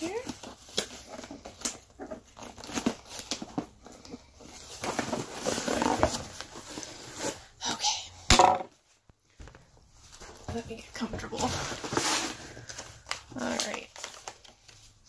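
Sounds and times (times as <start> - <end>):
cardboard rustling: 0.0 - 7.6, 8.8 - 15.0.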